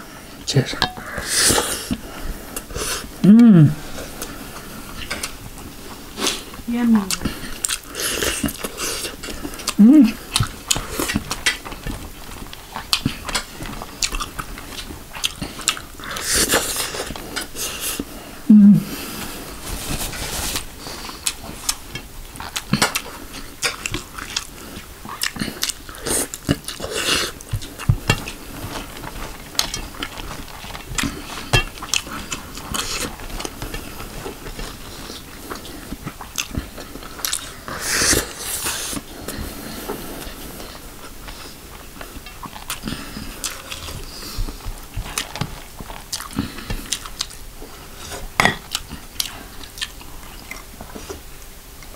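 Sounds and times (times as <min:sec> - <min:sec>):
wet chewing and lip smacking: 0:04.2 - 0:18.1, 0:20.6 - 0:39.2, 0:40.2 - 0:51.2.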